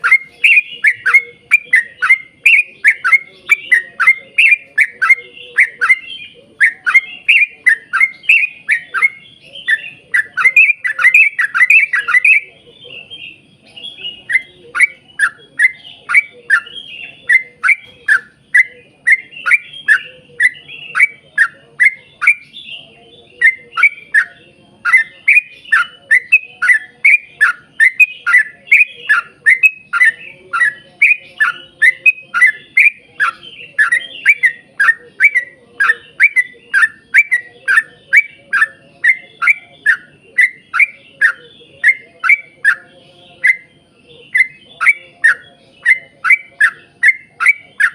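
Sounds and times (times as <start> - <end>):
bird singing rapid chirps: 0.0 - 47.9.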